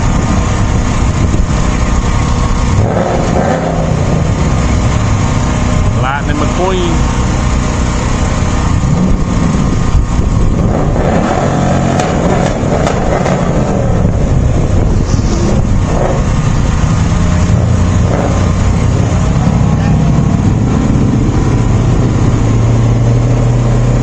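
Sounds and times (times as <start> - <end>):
road and wind noise: 0.0 - 24.0
vehicle engine droning: 0.0 - 24.0.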